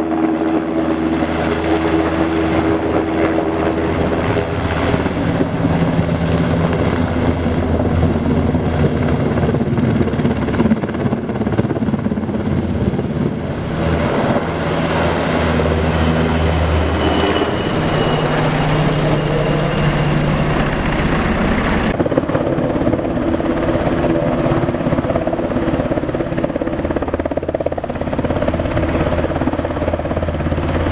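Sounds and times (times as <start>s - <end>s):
helicopter rotor and turbine noise: 0.0s - 30.9s.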